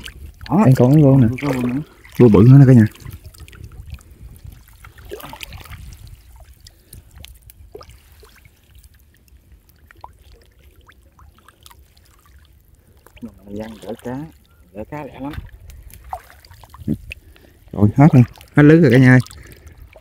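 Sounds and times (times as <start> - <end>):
small drips and splashes: 0.0 - 20.0
water trickling and sloshing: 0.0 - 20.0.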